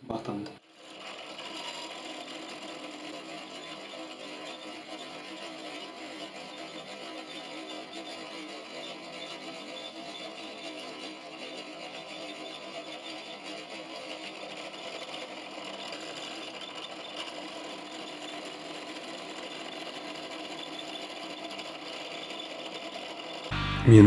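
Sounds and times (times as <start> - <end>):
drill press motor running: 0.7 - 23.6
drill bit drilling metal: 0.9 - 23.5.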